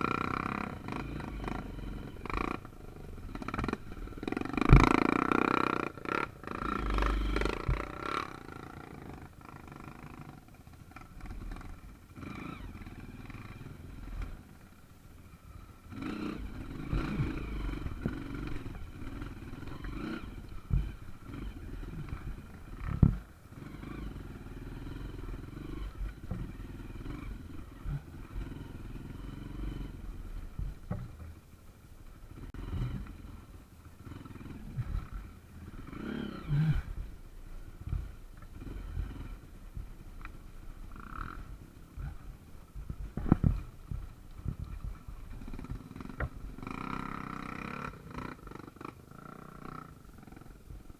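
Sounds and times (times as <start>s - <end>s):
motorcycle engine at low revs: 0.0s - 50.9s.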